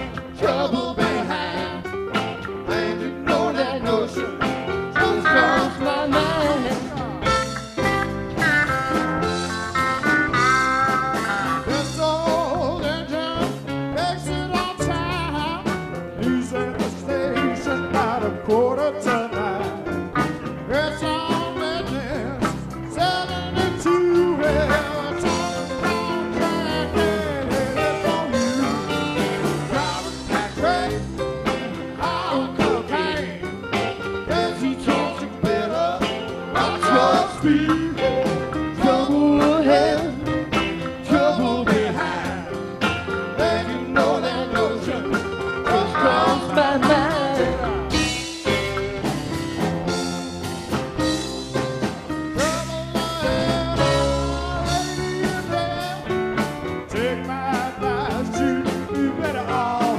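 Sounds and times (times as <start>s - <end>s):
drums: 0.0s - 59.9s
electric bass: 0.0s - 59.9s
live country-rock band: 0.0s - 59.9s.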